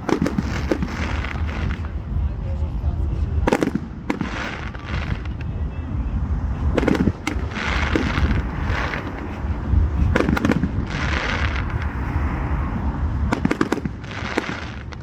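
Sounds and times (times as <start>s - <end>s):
fireworks hissing crackle: 0.0s - 2.4s, 3.1s - 5.7s, 6.5s - 15.0s
fireworks bangs: 0.0s - 15.0s
low rumble: 0.0s - 15.0s.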